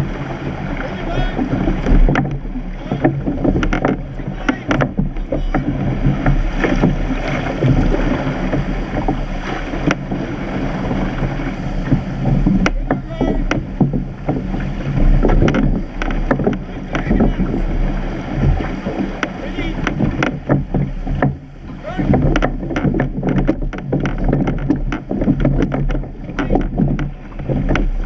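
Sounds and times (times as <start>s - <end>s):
water rushing along hull: 0.0s - 28.0s
wind buffeting microphone: 0.0s - 28.0s
oars knocking in gates: 1.0s - 10.3s, 10.9s - 28.0s.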